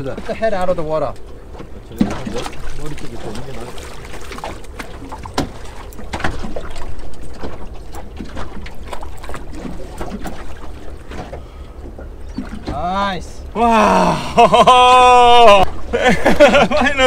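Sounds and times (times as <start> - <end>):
water splashing against boat: 0.0 - 17.0.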